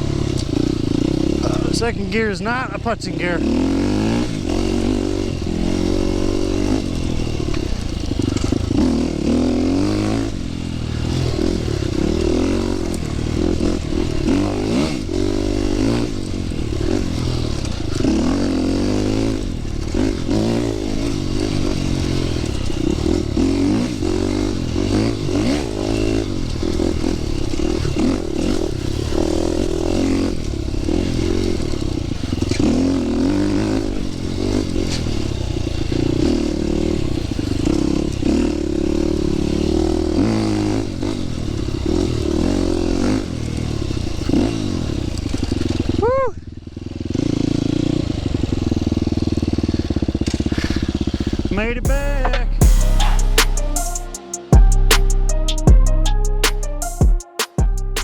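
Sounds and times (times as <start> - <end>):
dirt bike engine revving: 0.0 - 46.1, 46.7 - 58.0.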